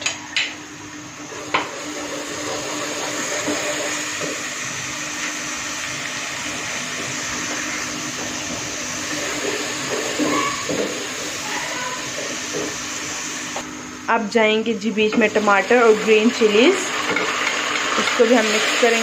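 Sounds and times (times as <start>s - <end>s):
onions sizzling in hot oil: 1.3s - 13.6s, 15.2s - 19.0s.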